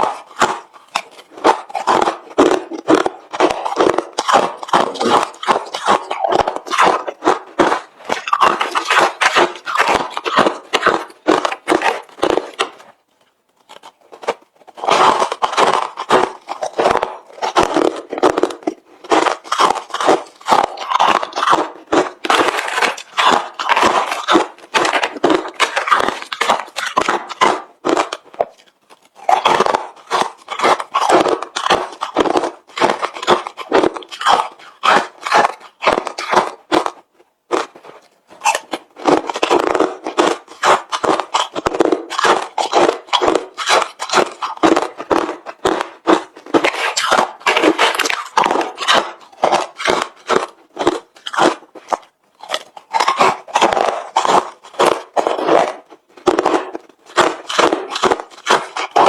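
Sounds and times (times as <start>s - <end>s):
chewing crunchy ice: 0.0s - 59.0s.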